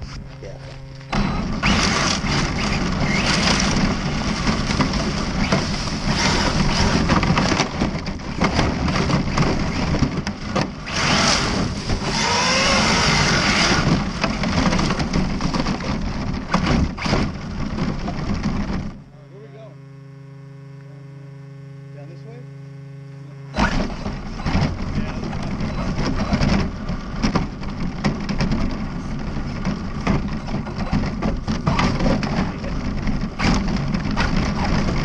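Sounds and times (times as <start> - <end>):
electric motor whine: 0.0 - 35.0.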